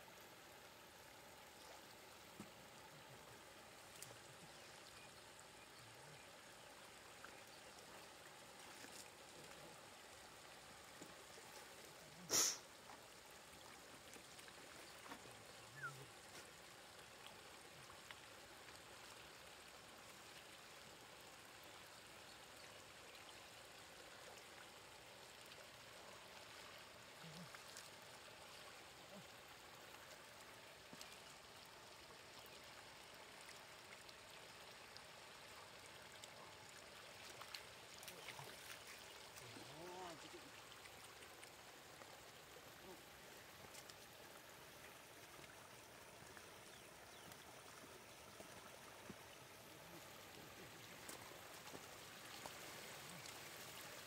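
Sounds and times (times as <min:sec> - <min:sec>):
water trickling over ground: 0:00.0 - 0:54.0.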